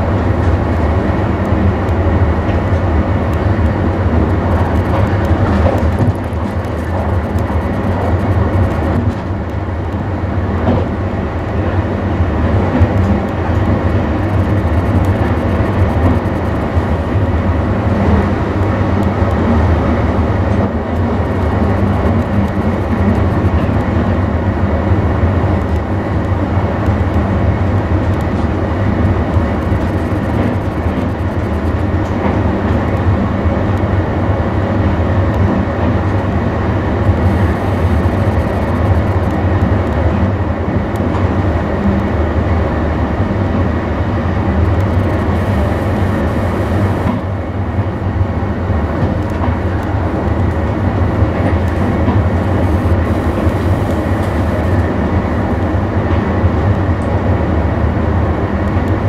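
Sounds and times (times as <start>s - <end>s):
train running rumble: 0.0s - 59.0s
wheel and rail noise: 0.0s - 59.0s.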